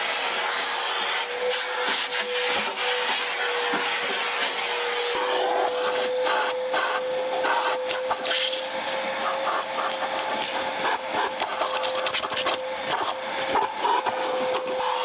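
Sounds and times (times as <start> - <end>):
vacuum cleaner whine: 0.0 - 15.0.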